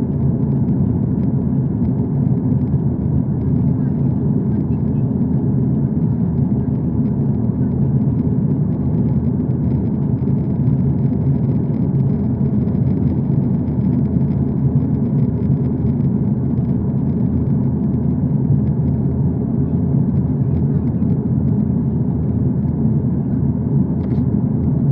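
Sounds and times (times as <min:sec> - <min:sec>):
aeroplane low rumble: 0:00.0 - 0:24.9.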